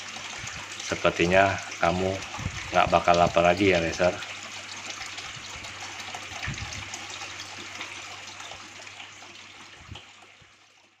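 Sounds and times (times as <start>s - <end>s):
aquarium water trickling and splashing: 0.0s - 11.0s.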